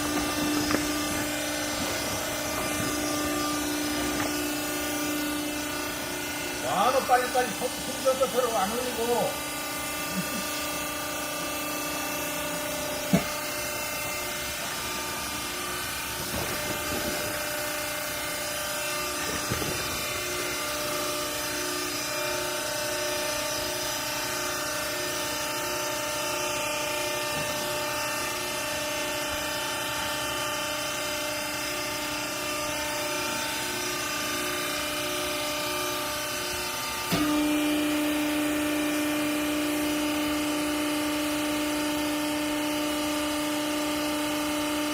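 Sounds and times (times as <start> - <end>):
hydraulic power unit hum: 0.0 - 44.9.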